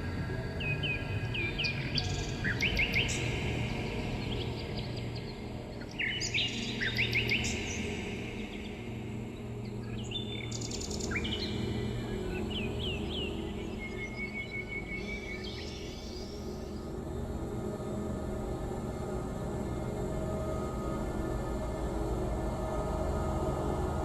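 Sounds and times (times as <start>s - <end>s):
low steady drone: 0.0s - 24.0s
small songbirds chirping: 0.0s - 24.0s.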